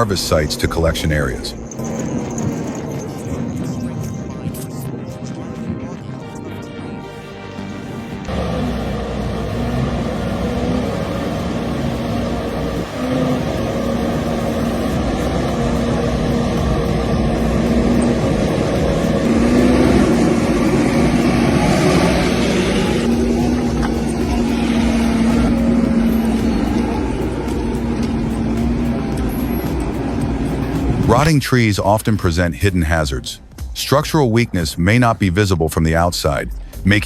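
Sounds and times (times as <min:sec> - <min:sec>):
heavy machine engine drone: 0:00.0 - 0:31.4.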